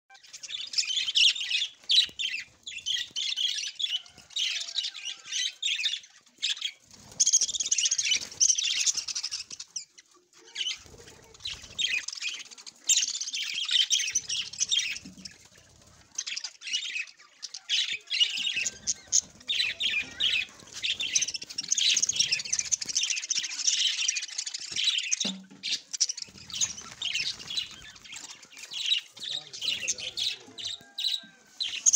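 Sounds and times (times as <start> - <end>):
budgerigars chattering: 0.1 - 31.9.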